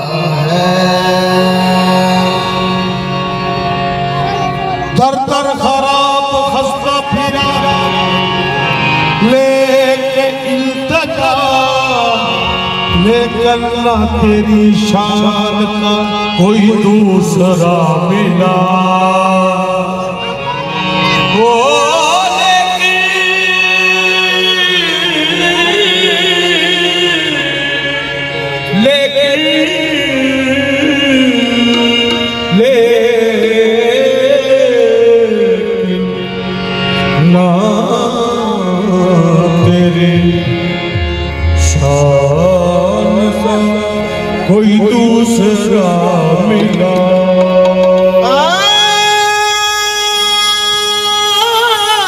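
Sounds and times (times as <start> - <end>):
steady held drone: 0.0 - 51.8.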